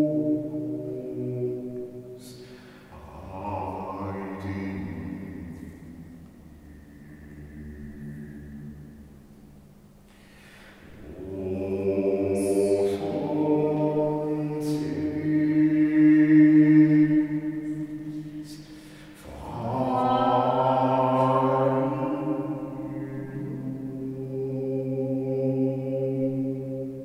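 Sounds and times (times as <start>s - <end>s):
man singing chant-like tones: 0.0s - 9.4s, 10.4s - 27.0s.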